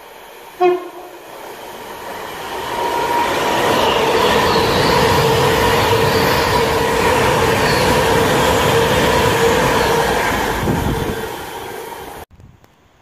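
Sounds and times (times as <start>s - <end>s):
electric train passing: 0.0s - 12.3s
train whine: 0.0s - 12.3s
wheels rumbling on rail: 0.0s - 12.3s.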